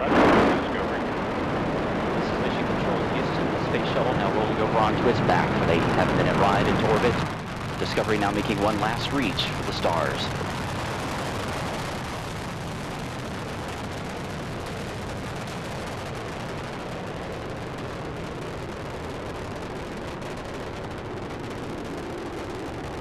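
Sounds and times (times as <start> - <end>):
rocket engines rumbling: 0.0 - 23.0.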